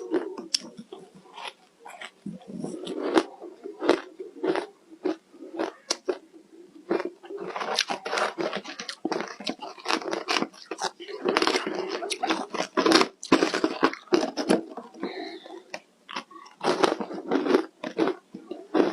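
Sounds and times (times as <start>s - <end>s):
person chewing ice: 0.0s - 18.9s.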